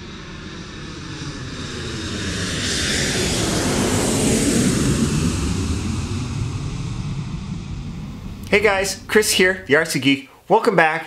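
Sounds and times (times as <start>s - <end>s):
jet flying past: 0.0s - 10.2s.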